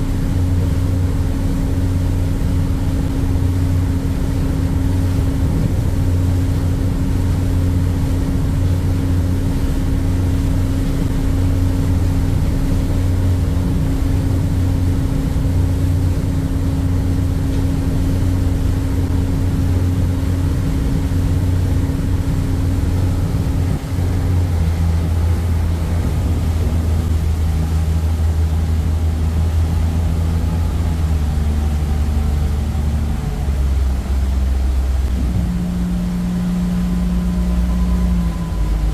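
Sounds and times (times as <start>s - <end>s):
ferry diesel engines droning: 0.0s - 38.9s
wake water rushing: 0.0s - 38.9s.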